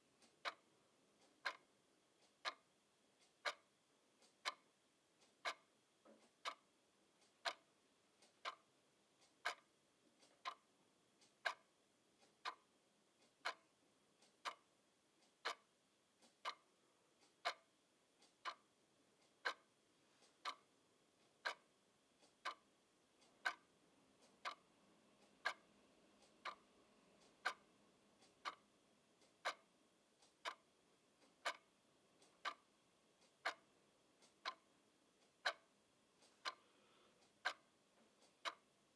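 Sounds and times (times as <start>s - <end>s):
clock ticking: 0.2s - 36.6s, 37.2s - 38.8s.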